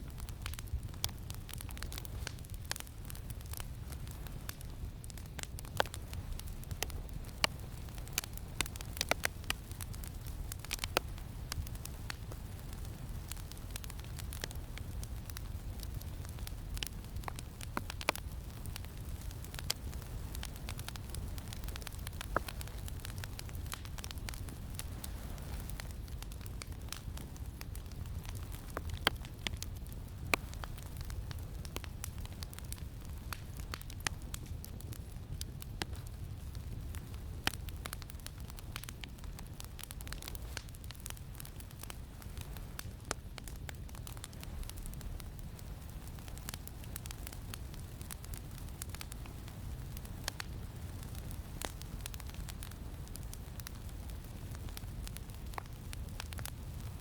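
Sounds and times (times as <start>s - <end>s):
campfire crackling and popping: 0.0s - 57.0s
low rumble of wind: 0.0s - 57.0s.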